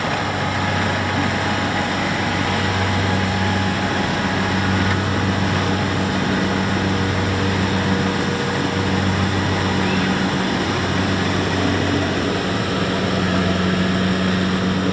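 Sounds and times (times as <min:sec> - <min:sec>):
combine harvester running: 0:00.0 - 0:14.9.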